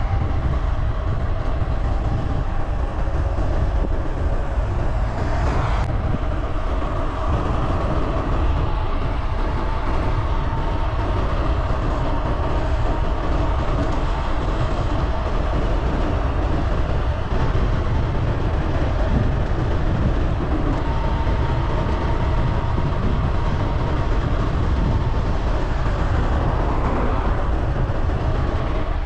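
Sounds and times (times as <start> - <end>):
tyres rolling on asphalt: 0.0 - 29.0
wind buffeting microphone: 0.0 - 29.0.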